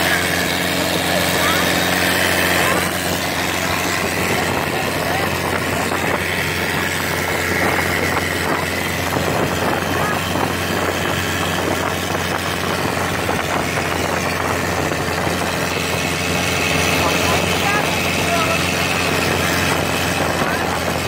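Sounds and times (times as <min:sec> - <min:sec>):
motorboat engine humming: 0:00.0 - 0:21.0
rushing wind: 0:00.0 - 0:21.0
water noise: 0:00.0 - 0:21.0.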